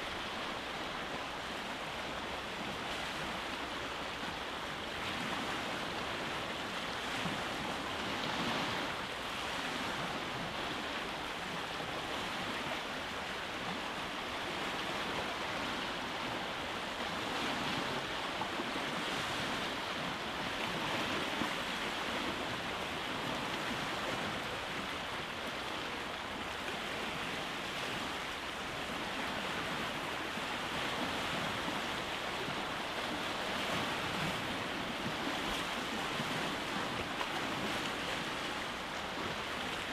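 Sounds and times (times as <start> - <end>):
waves on rocky shore: 0.0 - 39.9.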